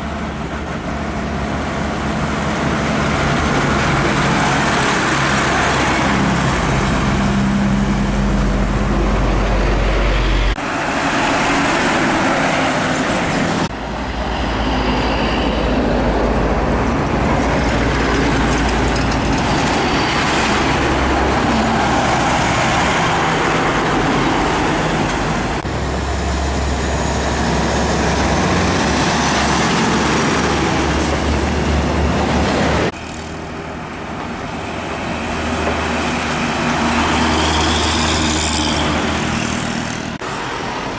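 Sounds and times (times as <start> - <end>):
heavy trucks driving past: 0.0 - 40.9
tyre and road noise: 0.0 - 40.9.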